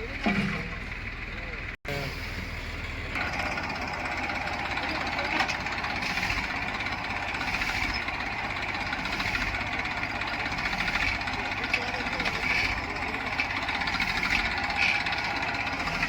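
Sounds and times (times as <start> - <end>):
heavy diesel engine clattering: 0.0 - 16.0.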